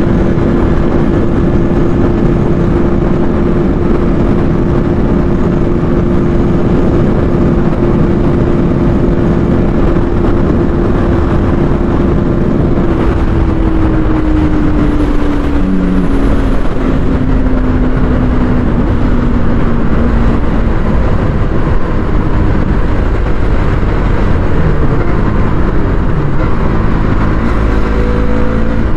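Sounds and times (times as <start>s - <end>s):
heavy wind rush: 0.0s - 28.9s
motorcycle engine at high revs: 0.0s - 28.9s.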